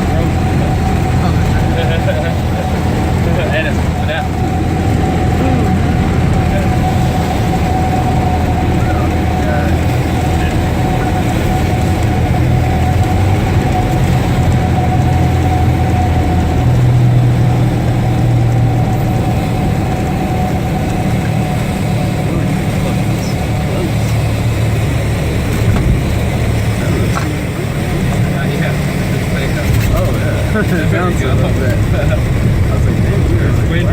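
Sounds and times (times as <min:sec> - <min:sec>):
propeller plane engine droning: 0:00.0 - 0:33.9
steady whine: 0:00.0 - 0:33.9.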